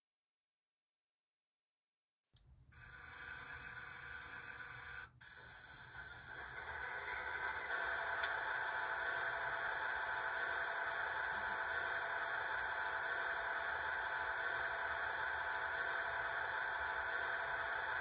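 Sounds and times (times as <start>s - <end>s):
hissy diesel engine sound: 2.8s - 18.0s.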